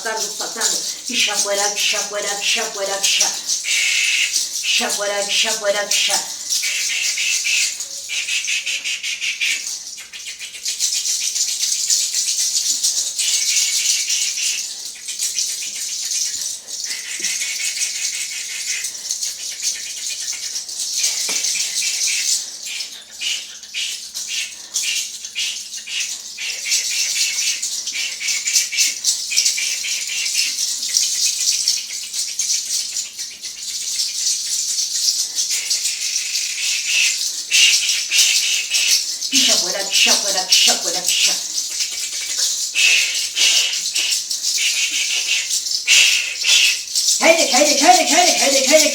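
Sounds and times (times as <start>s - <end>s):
rattle shaking: 0.0s - 48.9s.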